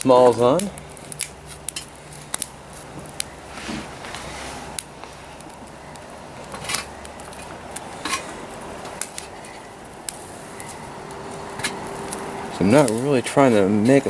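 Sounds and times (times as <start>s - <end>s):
fire hiss: 0.0s - 14.0s
tinder crackling: 0.0s - 14.0s.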